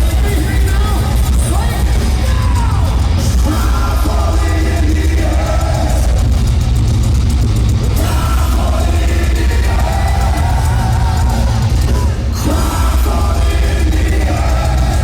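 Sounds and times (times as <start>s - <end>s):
shouted vocals: 0.0s - 6.4s, 7.9s - 15.0s
distorted guitars: 0.0s - 15.0s
drums: 0.0s - 15.0s
heavy bass: 0.0s - 15.0s.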